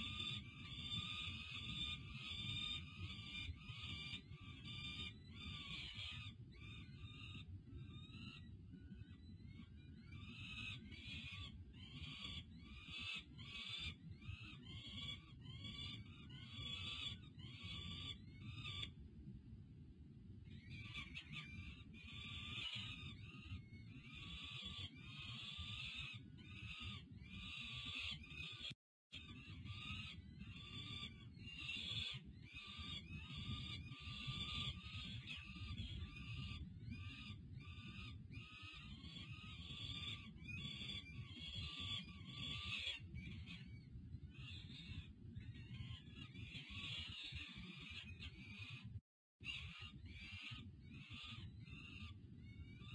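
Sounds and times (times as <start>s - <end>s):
falcon chicks begging calls: 0.0s - 18.9s, 20.6s - 52.9s.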